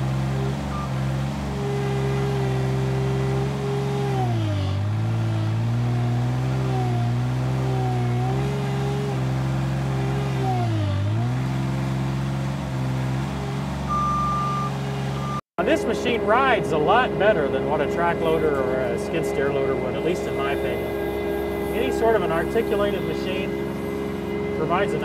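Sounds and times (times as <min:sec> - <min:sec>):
diesel engine bogging under load: 0:00.0 - 0:25.0.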